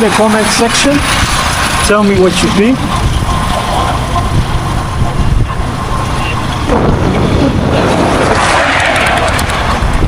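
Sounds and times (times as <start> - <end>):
road and vehicle noise: 0.0 - 10.0
wind buffeting microphone: 0.0 - 10.0.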